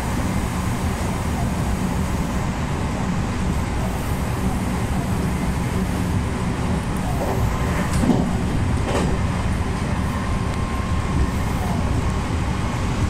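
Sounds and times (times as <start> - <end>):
train motors and wheels rumbling: 0.0 - 13.0.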